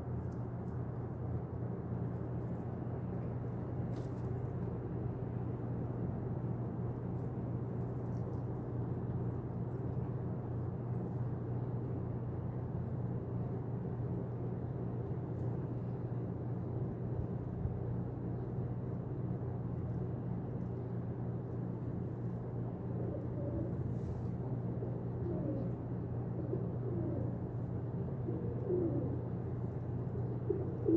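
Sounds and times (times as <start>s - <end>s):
constant hum: 0.0s - 30.9s
steady low rumble: 0.0s - 30.9s.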